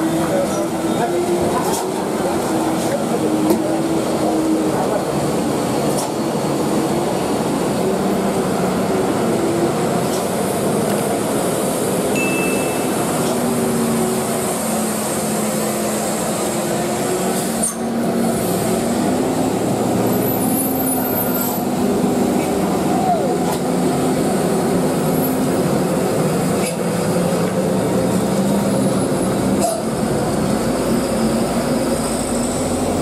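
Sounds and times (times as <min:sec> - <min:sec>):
diesel trucks passing slowly: 0:00.0 - 0:33.0.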